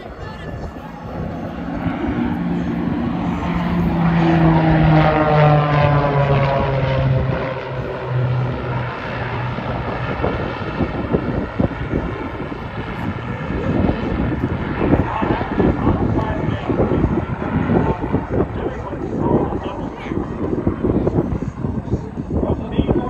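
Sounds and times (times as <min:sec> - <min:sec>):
propeller planes droning past: 0:00.0 - 0:23.0
rough engine rumble: 0:00.0 - 0:23.0.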